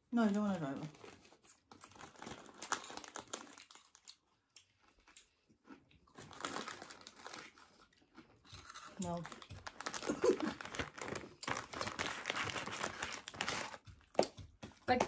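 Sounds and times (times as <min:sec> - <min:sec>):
crisp packet crinkling: 0:00.1 - 0:05.2, 0:06.1 - 0:14.4.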